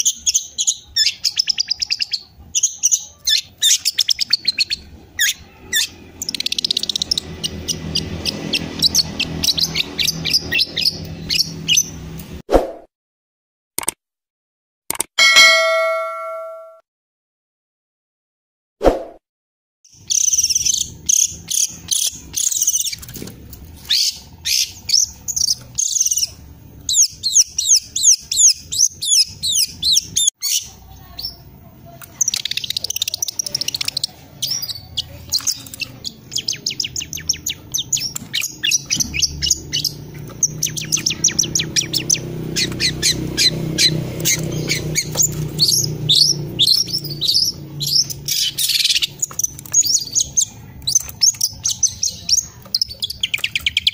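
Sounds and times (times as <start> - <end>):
bird singing chirps and trills: 0.0 - 12.1, 15.2 - 16.7, 19.9 - 23.1, 23.8 - 31.5, 32.1 - 53.9.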